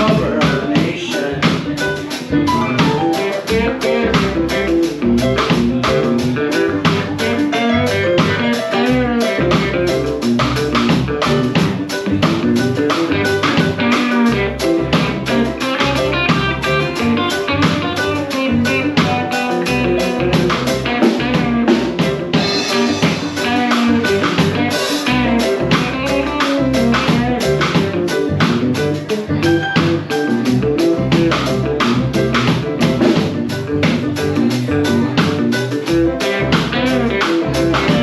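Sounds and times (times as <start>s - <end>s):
bass guitar: 0.0s - 38.0s
drum kit beat: 0.0s - 38.0s
electric guitar: 0.0s - 38.0s.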